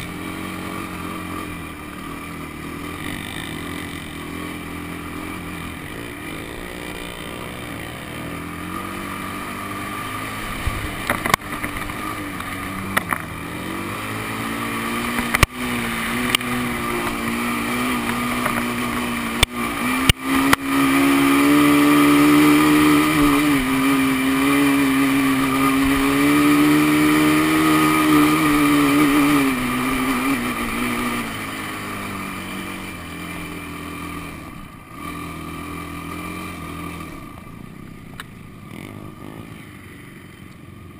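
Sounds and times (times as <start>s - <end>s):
quad engine revving: 0.0s - 40.4s.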